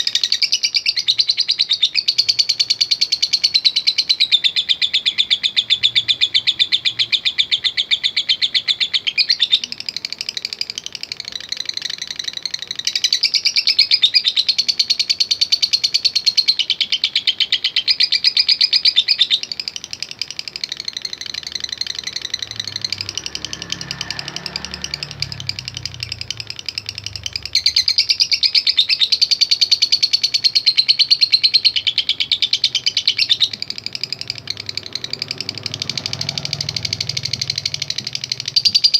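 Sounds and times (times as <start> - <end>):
lovebird chattering trills: 0.0 - 38.9.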